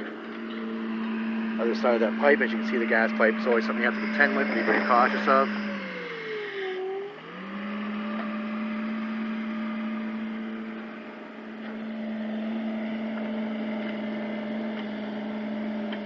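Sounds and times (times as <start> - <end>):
small excavator engine and hydraulics: 0.0 - 16.0.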